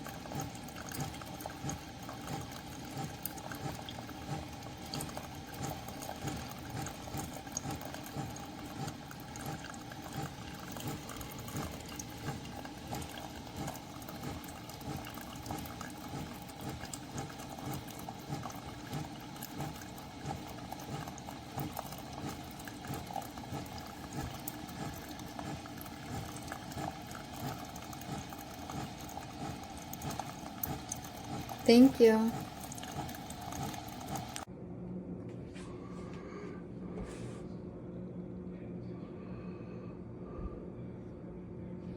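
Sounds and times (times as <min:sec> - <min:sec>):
hot water bubbling: 0:00.0 - 0:34.5.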